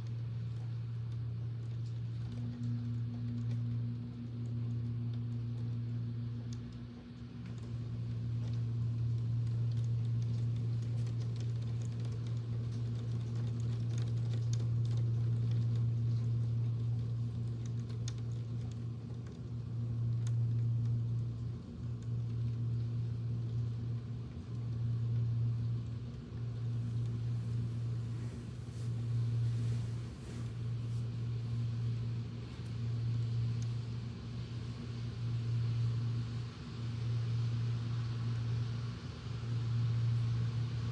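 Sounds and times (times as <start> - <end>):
electric fan humming: 0.0 - 40.9.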